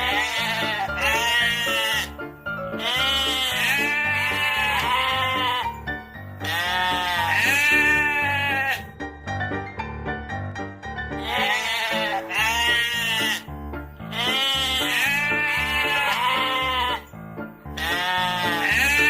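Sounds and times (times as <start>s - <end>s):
drawn-out bleating: 0.0s - 9.0s, 11.2s - 19.0s
background music: 0.0s - 19.0s.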